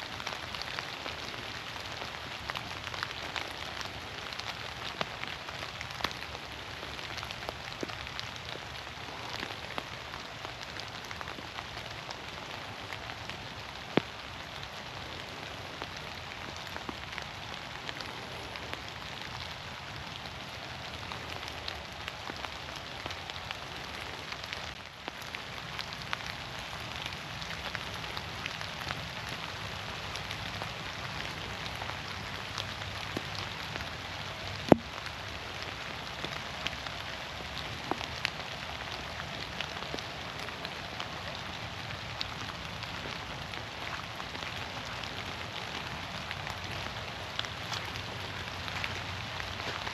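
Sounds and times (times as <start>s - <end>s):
close raindrops ticking: 0.0s - 49.9s
rain falling through trees: 0.0s - 49.9s.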